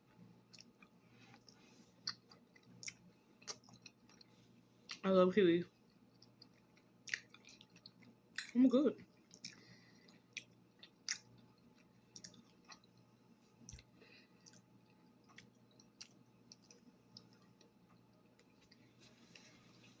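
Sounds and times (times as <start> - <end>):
person chewing soft fruit: 0.1 - 5.0, 5.7 - 20.0.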